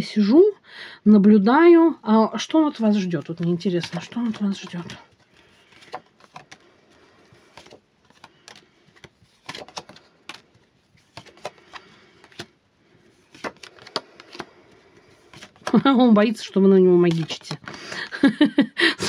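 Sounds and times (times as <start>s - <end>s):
cards being shuffled: 2.7s - 18.1s.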